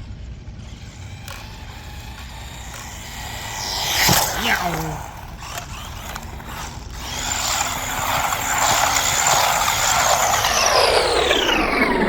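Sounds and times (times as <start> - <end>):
toy truck electric motor whining: 0.0 - 12.0.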